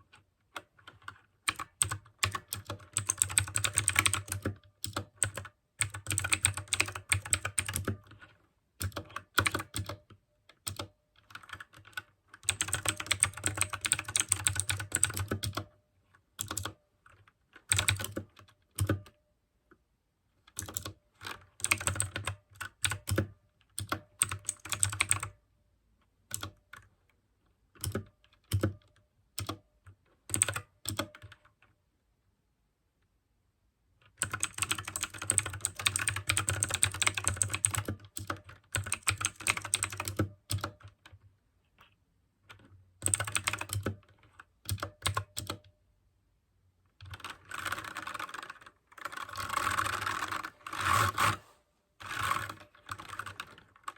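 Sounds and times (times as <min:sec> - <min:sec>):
mechanical keyboard typing: 0:00.0 - 0:15.7, 0:16.4 - 0:19.1, 0:20.5 - 0:25.4, 0:26.3 - 0:26.9, 0:27.8 - 0:29.7, 0:30.3 - 0:31.6, 0:34.2 - 0:41.9, 0:42.5 - 0:45.7, 0:47.0 - 0:51.4, 0:52.0 - 0:53.9.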